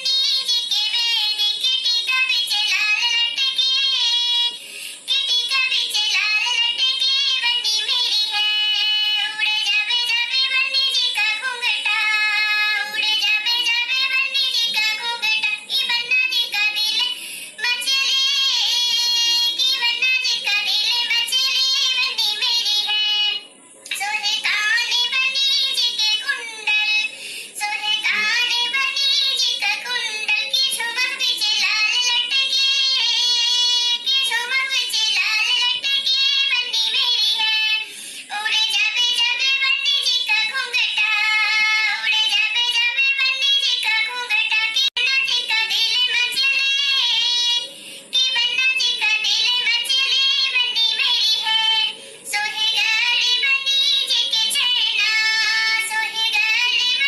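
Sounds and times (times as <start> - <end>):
high-pitched voice singing folk song: 0.0 - 57.0.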